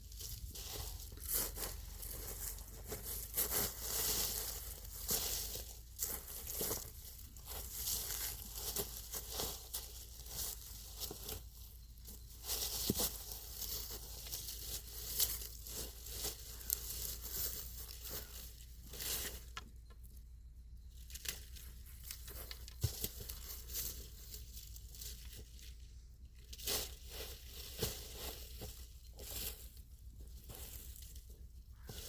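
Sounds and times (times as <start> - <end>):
rustling and crinkling: 0.0 - 32.0.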